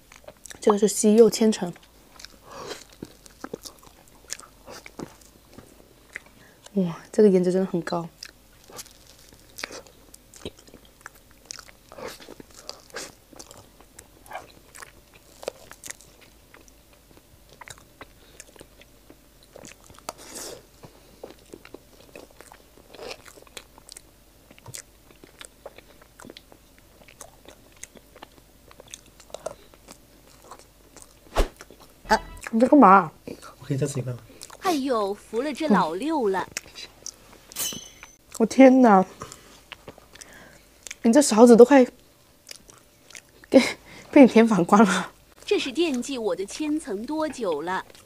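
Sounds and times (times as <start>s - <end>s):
person chewing cake: 0.0s - 7.2s, 8.0s - 32.6s, 33.2s - 34.6s, 36.4s - 37.5s, 39.1s - 41.0s, 42.0s - 44.0s, 47.3s - 48.0s.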